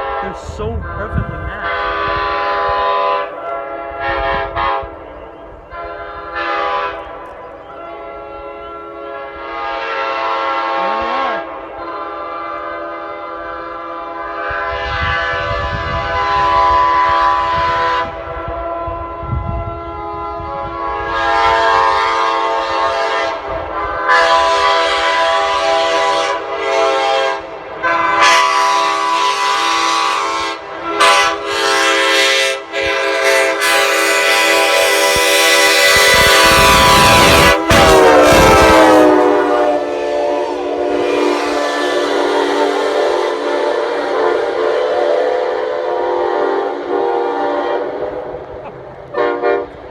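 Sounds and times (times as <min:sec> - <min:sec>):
train horn chord: 0:00.0 - 0:49.9.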